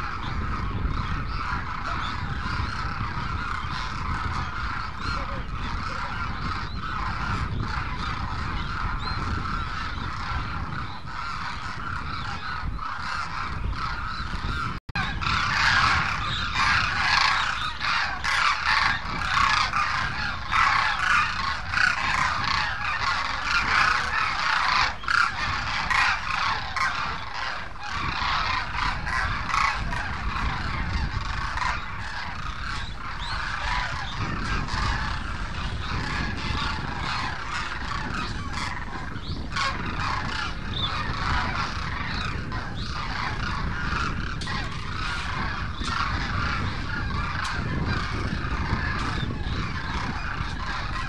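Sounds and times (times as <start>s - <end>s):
cranes honking: 0.0s - 51.0s.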